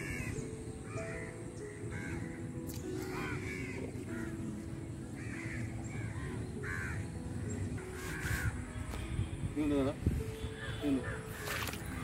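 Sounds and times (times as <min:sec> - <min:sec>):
crows cawing: 0:00.0 - 0:08.6, 0:10.6 - 0:11.8.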